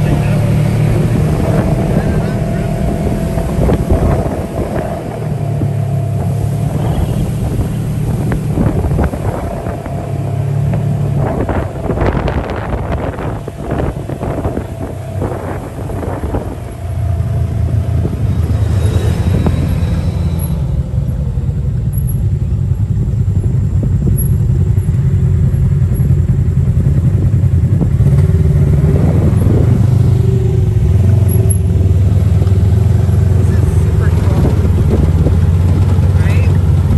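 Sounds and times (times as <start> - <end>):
wind buffeting microphone: 0.0 - 20.4, 25.4 - 36.9
buggy engine droning: 0.0 - 36.9.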